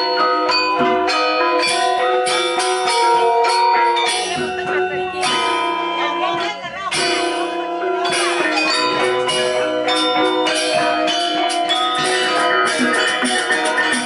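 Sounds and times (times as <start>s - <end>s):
gongs ringing: 0.0s - 14.0s
metallophone keys struck: 0.0s - 14.0s.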